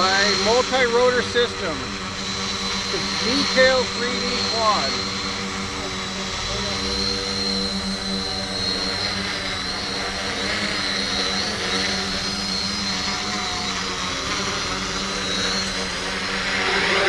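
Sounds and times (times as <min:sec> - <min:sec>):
quadcopter motors humming: 0:00.0 - 0:17.0.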